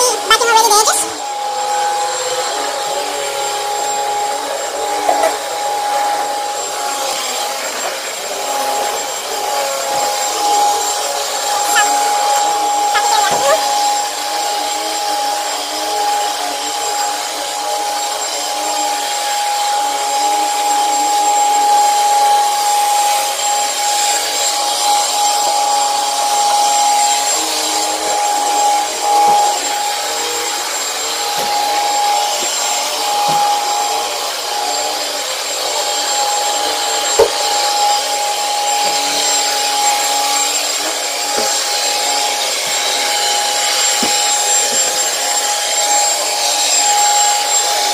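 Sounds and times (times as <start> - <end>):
vacuum cleaner on carpet: 0.0 - 47.9.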